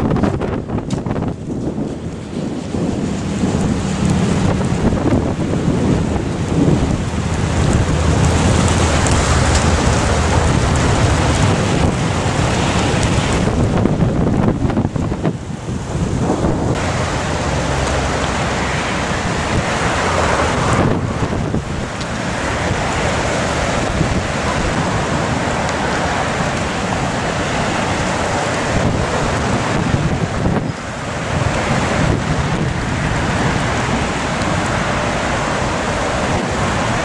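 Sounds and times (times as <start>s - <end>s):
strong gusting storm wind: 0.0s - 37.0s.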